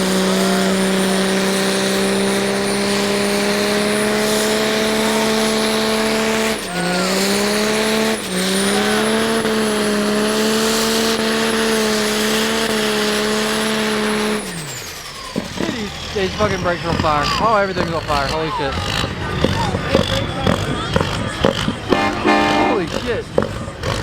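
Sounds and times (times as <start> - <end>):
diesel truck engine high revs: 0.0 - 24.0.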